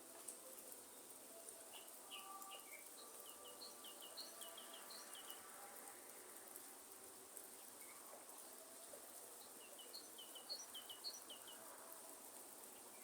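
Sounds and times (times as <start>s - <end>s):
light rain hiss: 0.0s - 13.0s.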